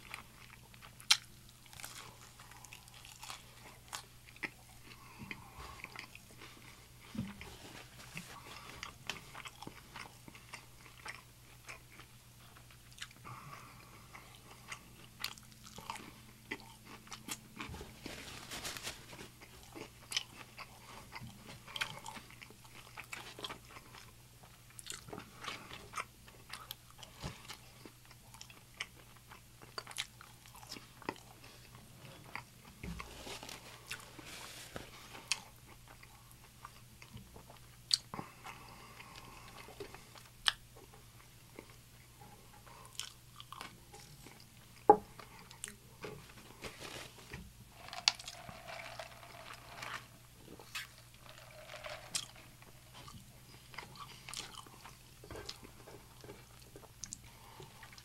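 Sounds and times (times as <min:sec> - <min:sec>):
chewing with crunches: 0:00.0 - 0:58.0.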